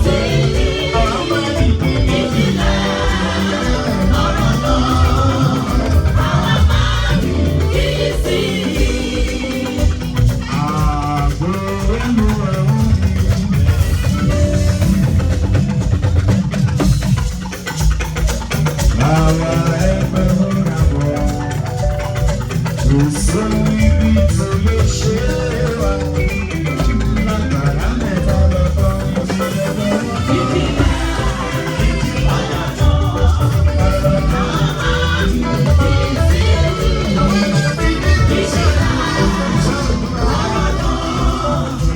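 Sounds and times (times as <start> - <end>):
person singing: 0.0 - 13.5, 19.0 - 21.8, 22.8 - 41.9
band playing steady beat: 0.0 - 41.9.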